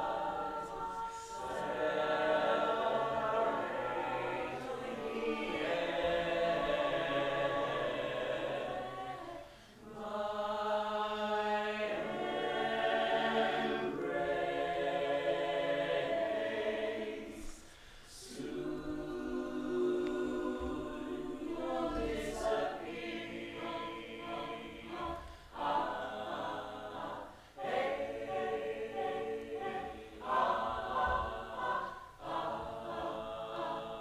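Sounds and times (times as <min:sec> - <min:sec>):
group of voices singing chords: 0:00.0 - 0:34.0.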